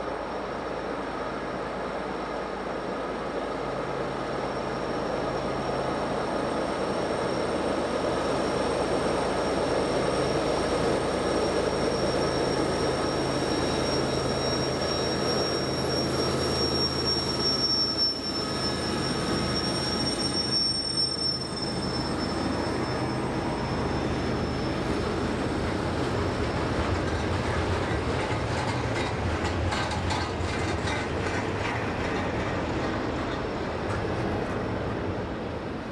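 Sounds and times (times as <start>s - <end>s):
freight train rolling past: 0.0s - 35.9s
high steady wheel squeal: 3.0s - 35.9s.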